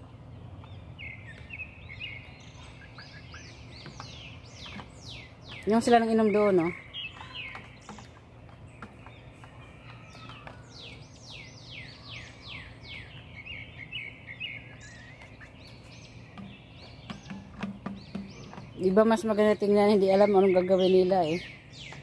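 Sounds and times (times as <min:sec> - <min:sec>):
birds chirping: 0:00.0 - 0:22.0
low steady hum: 0:00.0 - 0:22.0.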